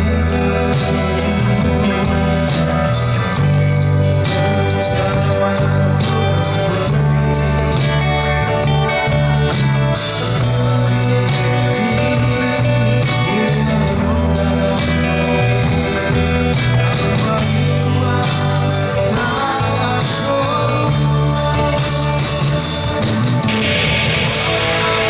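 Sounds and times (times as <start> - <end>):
live band with amplified guitar: 0.0 - 25.0
person singing: 0.0 - 25.0.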